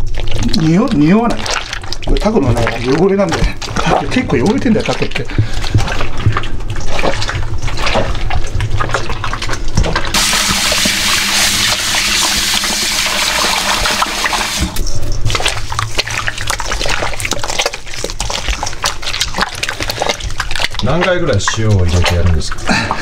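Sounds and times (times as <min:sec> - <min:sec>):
running water: 0:00.0 - 0:23.0
wet squelching and slapping: 0:00.0 - 0:23.0.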